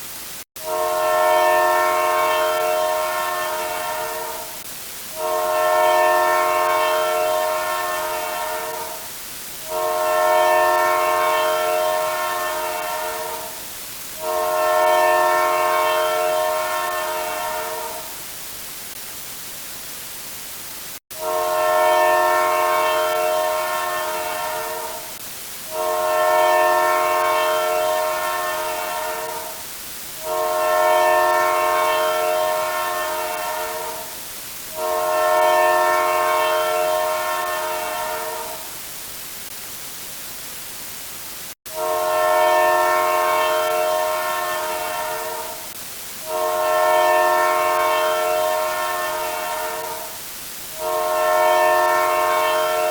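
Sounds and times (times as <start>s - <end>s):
train air horn blasts: 0.6s - 18.3s, 21.1s - 38.9s, 41.7s - 52.9s.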